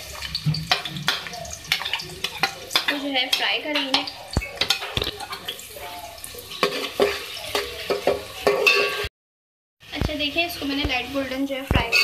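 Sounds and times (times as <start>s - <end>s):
onions sizzling in oil: 0.0s - 9.1s, 9.8s - 12.0s.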